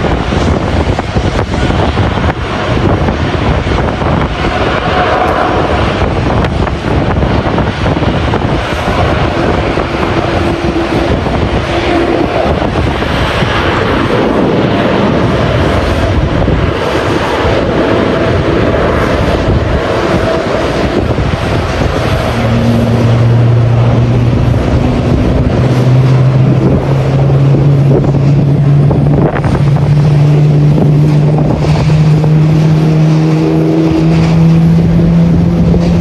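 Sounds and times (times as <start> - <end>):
jet engines running: 0.0 - 36.0
wind buffeting microphone: 0.0 - 36.0.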